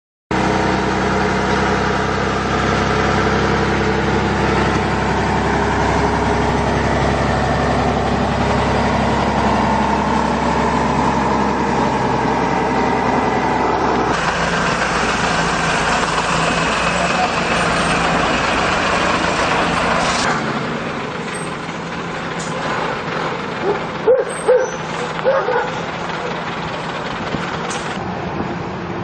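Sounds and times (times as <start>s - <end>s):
truck diesel engine running: 0.3s - 29.0s.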